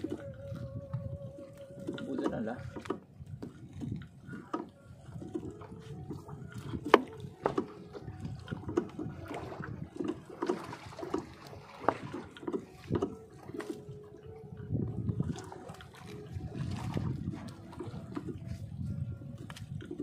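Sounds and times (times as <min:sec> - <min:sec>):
water splashing and dripping: 0:00.0 - 0:20.0.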